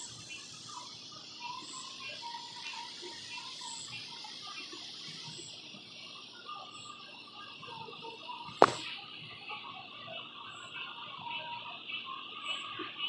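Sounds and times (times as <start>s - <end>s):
insect chirp: 0.0s - 13.0s
low pulsing insect calls: 0.0s - 13.0s.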